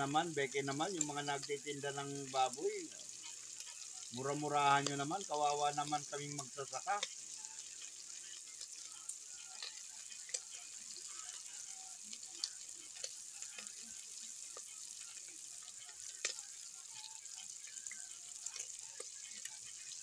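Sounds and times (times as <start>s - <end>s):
pork sizzling in a pot: 0.0s - 20.0s.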